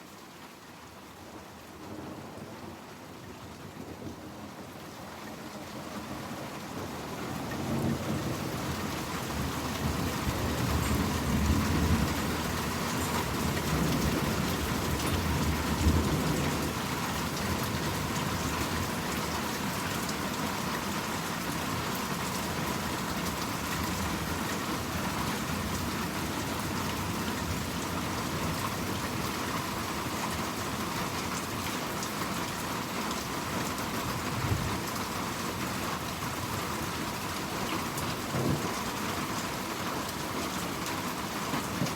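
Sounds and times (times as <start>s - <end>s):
rain pattering: 0.1s - 41.9s.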